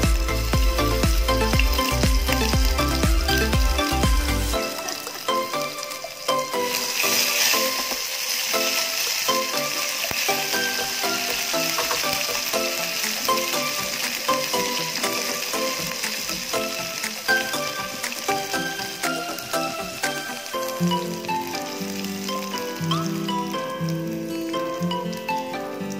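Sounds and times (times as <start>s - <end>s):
background music: 0.0s - 25.9s
food sizzling in hot oil: 0.0s - 25.9s.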